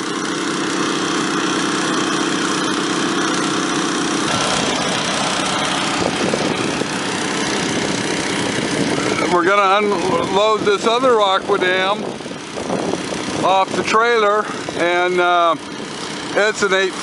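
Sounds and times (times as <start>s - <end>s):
small water pump engines running: 0.0s - 17.0s.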